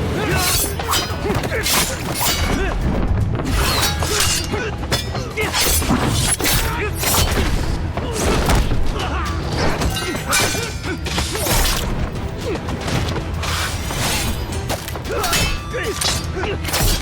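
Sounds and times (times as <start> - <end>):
dramatic music: 0.0 - 17.0.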